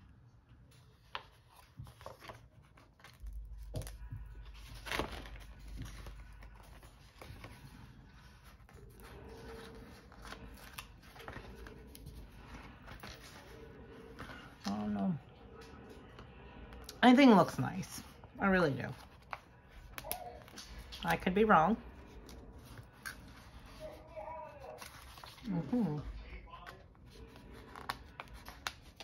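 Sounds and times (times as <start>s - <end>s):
paper crinkling and rustling: 0.7s - 15.0s, 18.0s - 29.0s.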